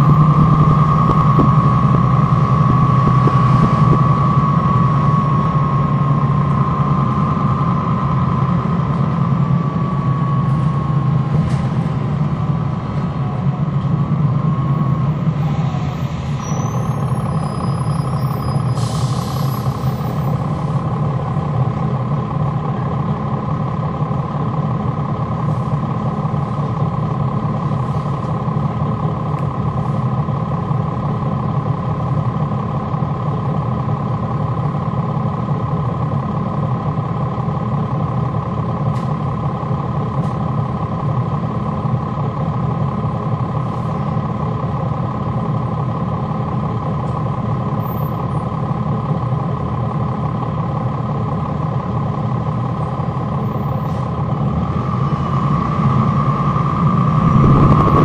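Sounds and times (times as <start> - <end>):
bus diesel engine droning: 0.0 - 58.0
engine fan whine: 0.0 - 58.0.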